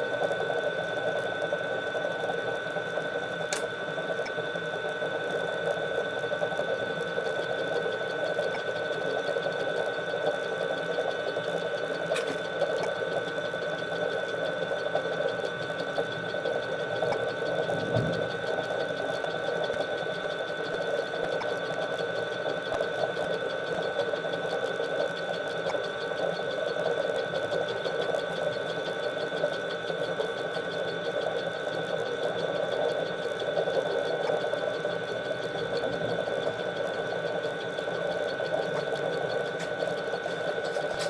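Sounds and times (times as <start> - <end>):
small electric motor whirring: 0.0 - 41.0.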